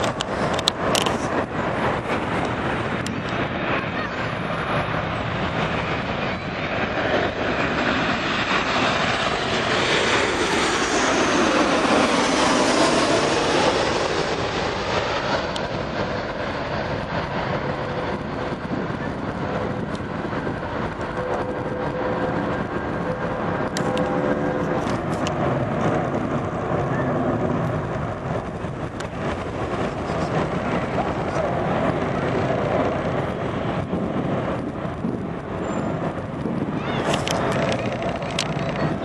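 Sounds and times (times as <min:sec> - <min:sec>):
jet airliner passing overhead: 0:00.0 - 0:39.0.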